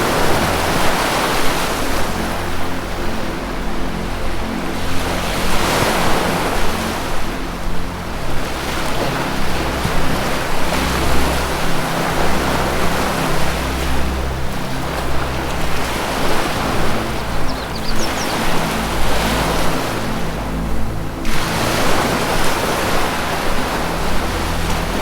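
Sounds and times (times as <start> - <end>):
ambient music drone: 0.0 - 25.0
ocean surf washing in: 0.0 - 25.0.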